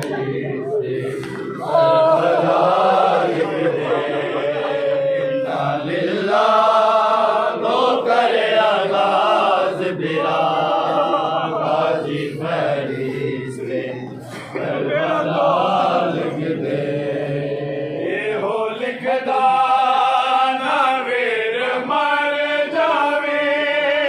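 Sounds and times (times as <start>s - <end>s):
men chanting a lament: 0.0s - 24.0s.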